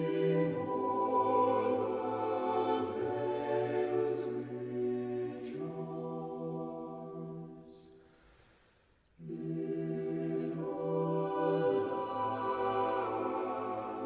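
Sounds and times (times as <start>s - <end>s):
slow choir-like chords: 0.0s - 8.1s, 9.2s - 14.0s.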